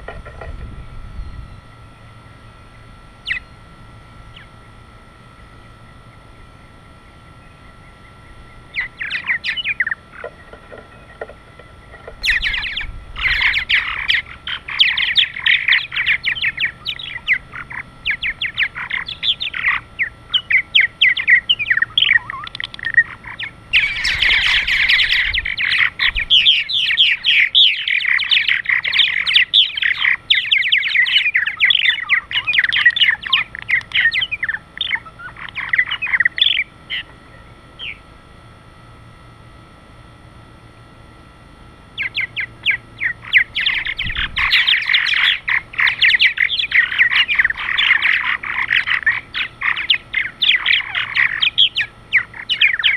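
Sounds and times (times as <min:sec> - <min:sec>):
birds chirping and chattering: 0:01.2 - 0:39.4, 0:41.8 - 0:52.9.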